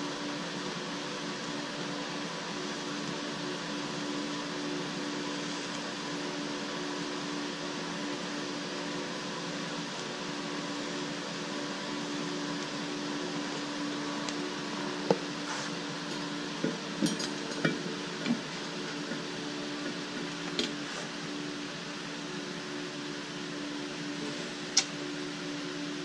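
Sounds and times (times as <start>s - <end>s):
shop machinery hum: 0.0s - 26.0s.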